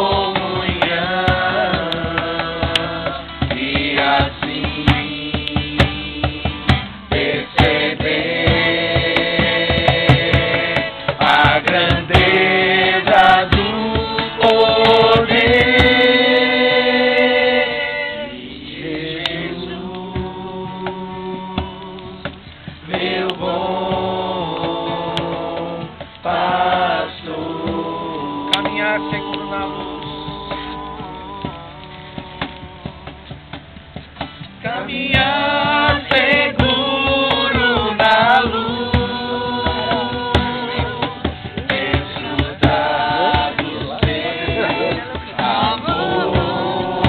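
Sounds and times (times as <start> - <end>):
worship song with instruments: 0.0 - 47.0.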